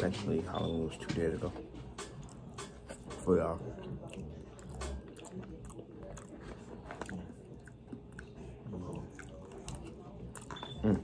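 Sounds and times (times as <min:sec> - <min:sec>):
person chewing food: 0:01.8 - 0:11.0.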